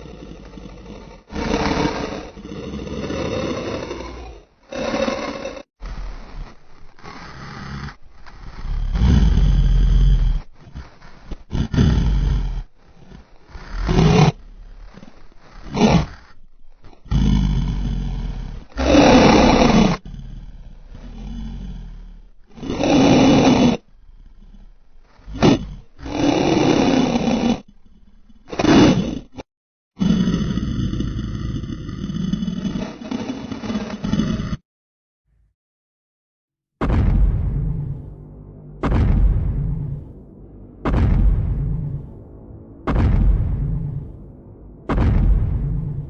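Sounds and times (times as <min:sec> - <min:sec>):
monster roars: 0:00.0 - 0:29.4, 0:30.0 - 0:34.6, 0:36.8 - 0:46.0.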